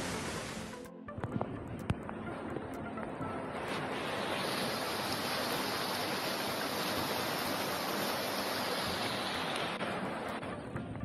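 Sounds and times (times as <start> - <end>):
floodwater rushing down street: 0.0 - 0.8, 1.7 - 11.0.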